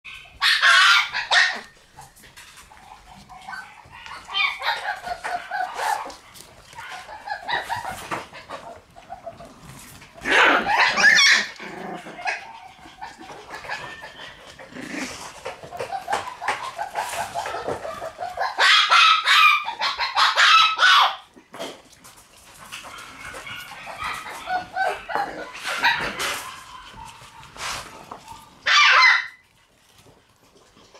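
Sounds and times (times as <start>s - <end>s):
puppies yapping: 0.1s - 30.9s.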